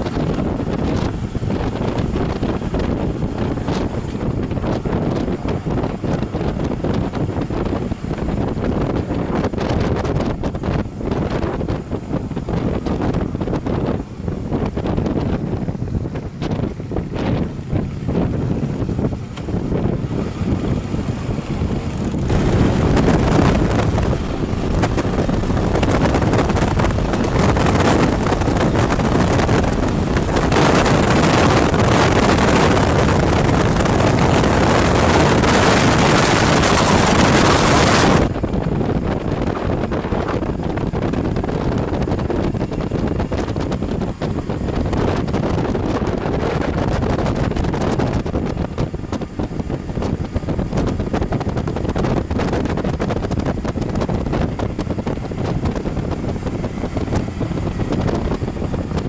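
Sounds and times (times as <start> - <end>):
motorcycle road and engine noise: 0.0 - 59.0
wind rushing over microphone: 0.0 - 59.0.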